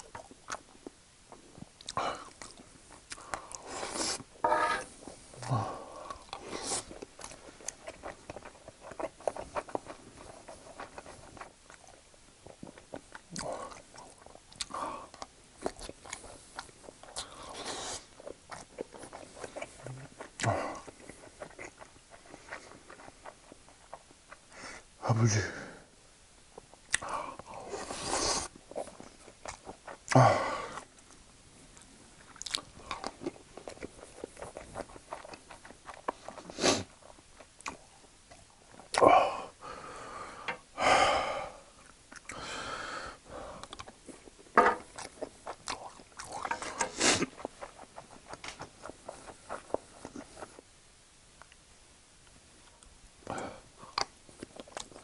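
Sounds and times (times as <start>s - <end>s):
person chewing: 0.0s - 24.6s, 26.6s - 31.2s, 31.8s - 39.6s, 41.2s - 42.5s, 43.5s - 50.7s, 52.7s - 55.0s.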